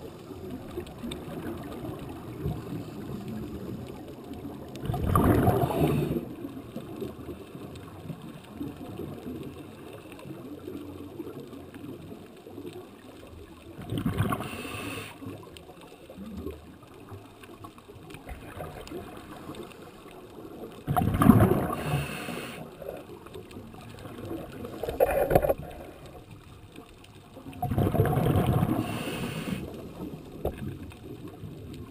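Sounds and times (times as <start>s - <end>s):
gurgling exhaled bubbles: 0.0s - 31.9s
low water hiss: 0.0s - 31.9s.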